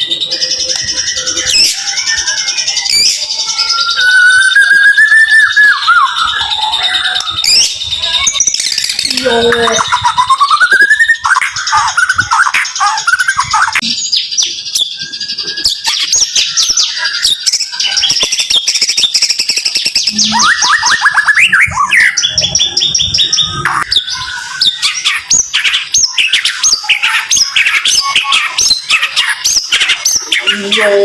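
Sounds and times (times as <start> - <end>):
songbird singing rapid sharp notes: 0.0 - 31.0.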